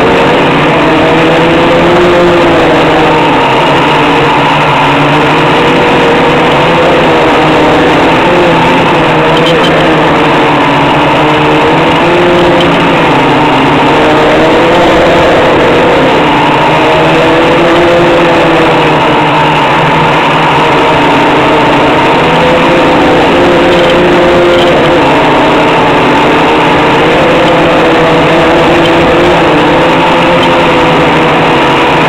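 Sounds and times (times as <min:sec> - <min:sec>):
drone motors and propellers humming: 0:00.0 - 0:32.0.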